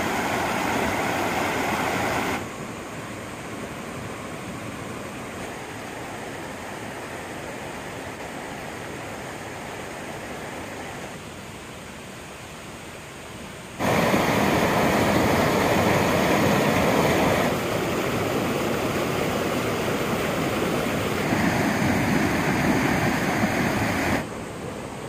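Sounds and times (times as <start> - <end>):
stream flowing over rocks: 0.0 - 25.0.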